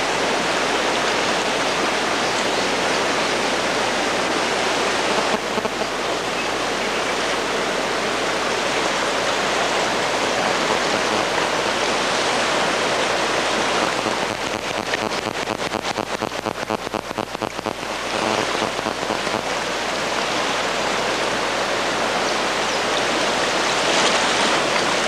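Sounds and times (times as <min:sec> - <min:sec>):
flood water rushing: 0:00.0 - 0:25.0.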